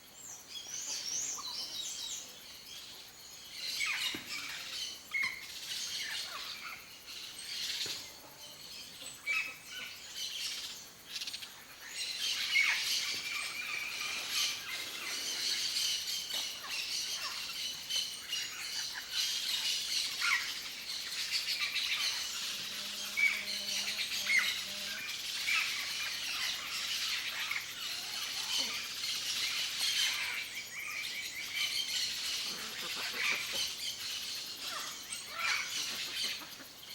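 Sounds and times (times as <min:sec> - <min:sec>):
natural background: 0:00.0 - 0:36.9.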